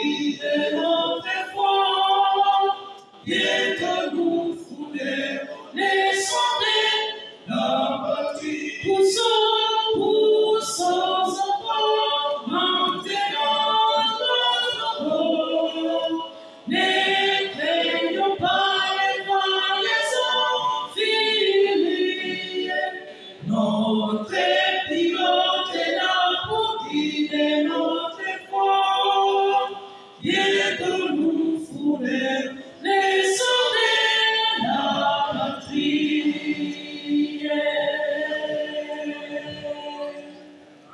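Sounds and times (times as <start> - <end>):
male vocal group singing: 0.0 - 40.5.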